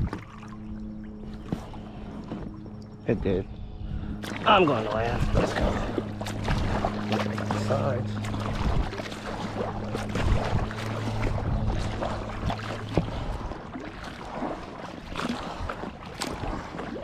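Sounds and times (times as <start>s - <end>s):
paddle splashing in water: 0.0s - 2.6s, 4.2s - 17.0s
steady low hum: 0.0s - 17.0s.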